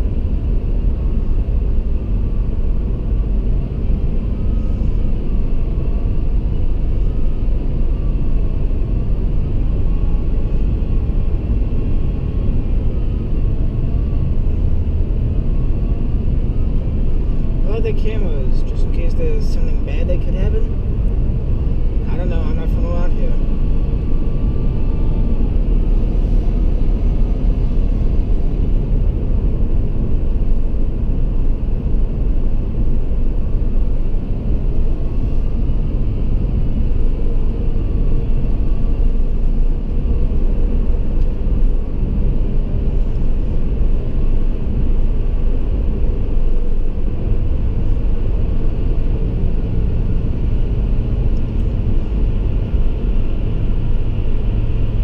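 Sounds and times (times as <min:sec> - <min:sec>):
car driving through tunnel: 0:00.0 - 0:55.0
surrounding traffic din: 0:00.0 - 0:55.0.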